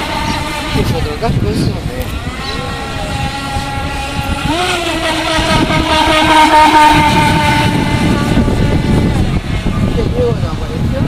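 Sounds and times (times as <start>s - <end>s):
model speedboat motor whine: 0.0s - 11.0s.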